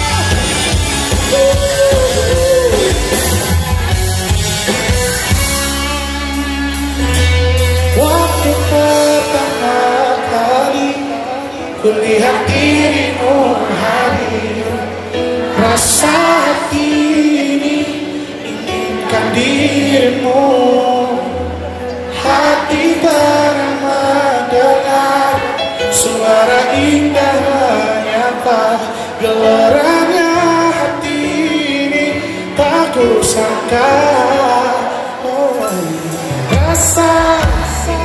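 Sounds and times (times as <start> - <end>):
man singing into a microphone: 0.0 - 3.6, 7.6 - 38.0
crowd singing along: 0.0 - 38.0
live band playing reggae pop: 0.0 - 38.0.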